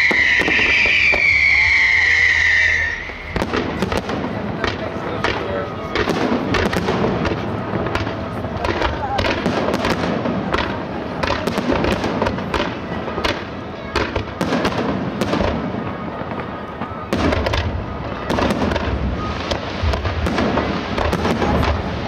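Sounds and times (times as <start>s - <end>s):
fireworks rumble and booms: 0.0s - 22.0s.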